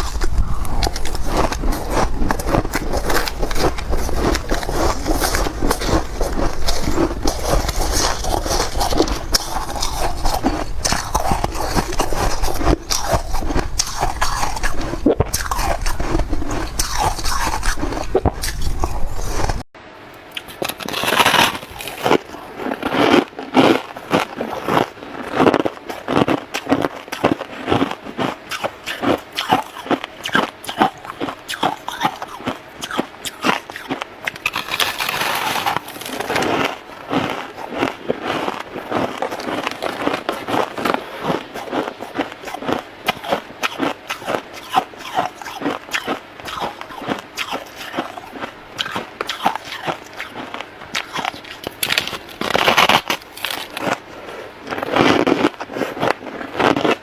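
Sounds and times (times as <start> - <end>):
chewing crunchy frost: 0.0 - 19.7, 20.3 - 57.0.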